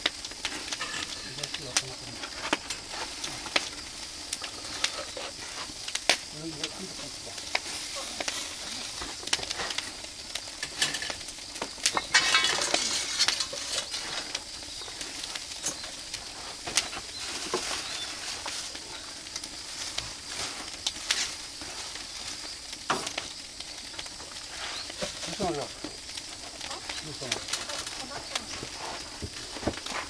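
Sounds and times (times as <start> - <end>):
food sizzling on a barbecue: 0.0 - 30.0
wood fire crackling and popping: 0.0 - 30.0.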